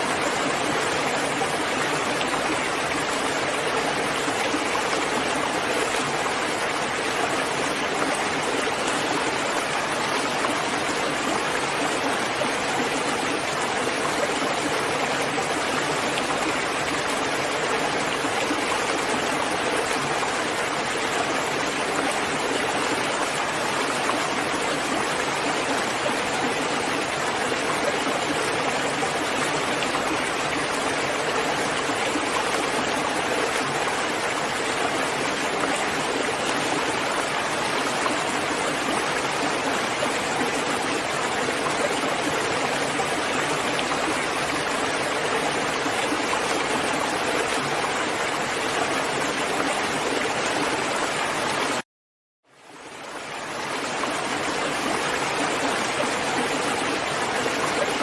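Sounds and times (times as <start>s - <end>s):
steady rain: 0.0s - 51.8s.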